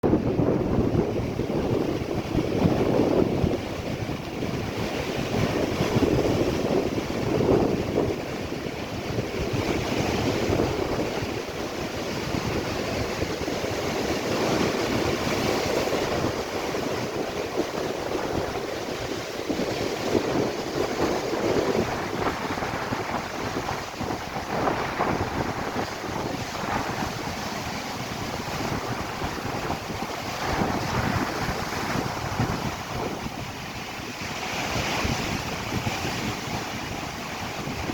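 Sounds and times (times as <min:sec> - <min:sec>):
waves breaking on shore: 0:00.0 - 0:37.9
wind buffeting microphone: 0:00.0 - 0:37.9.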